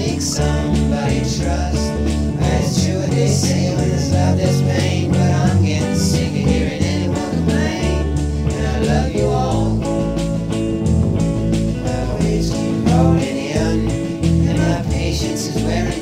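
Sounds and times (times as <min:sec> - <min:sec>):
electric guitar: 0:00.0 - 0:16.0
rock band instrumental: 0:00.0 - 0:16.0.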